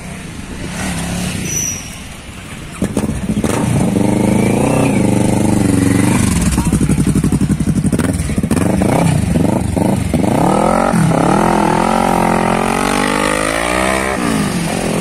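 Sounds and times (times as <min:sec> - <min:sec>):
motorcycle engine accelerating: 0:02.8 - 0:15.0.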